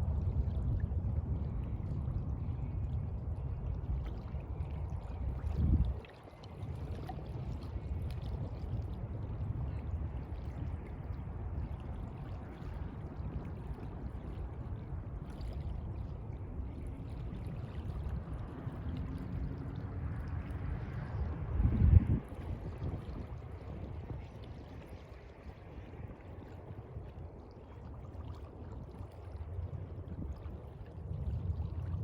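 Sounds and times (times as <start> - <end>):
sea water washing and lapping: 0.0 - 32.0.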